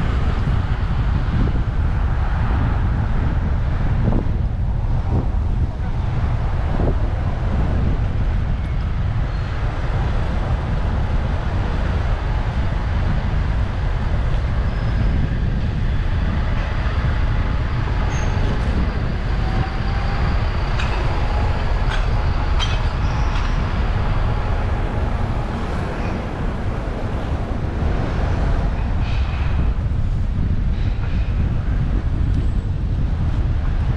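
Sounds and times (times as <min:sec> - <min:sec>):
street traffic: 0:00.0 - 0:33.9
wind rumble on microphone: 0:00.0 - 0:33.9.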